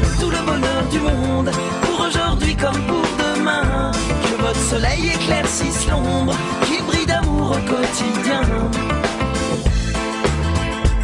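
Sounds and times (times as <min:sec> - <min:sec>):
band music playing: 0:00.0 - 0:11.0.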